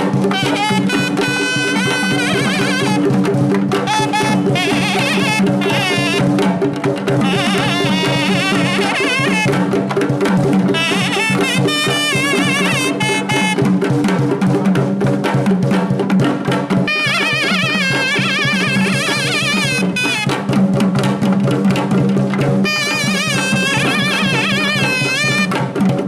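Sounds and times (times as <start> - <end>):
reed pipe melody: 0.0 - 13.8, 16.8 - 20.8, 22.6 - 25.8
barrel drum beating: 0.0 - 26.0.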